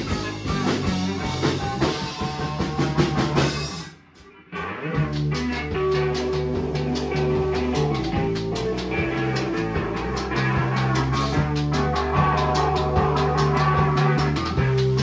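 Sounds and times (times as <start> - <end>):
drum kit: 0.0 - 15.0
electric bass: 0.0 - 15.0
electric guitar: 0.0 - 15.0.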